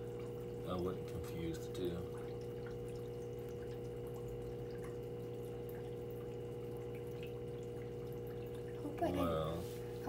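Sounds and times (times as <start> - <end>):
aquarium equipment humming: 0.0 - 10.0
water trickling and dripping: 0.0 - 10.0.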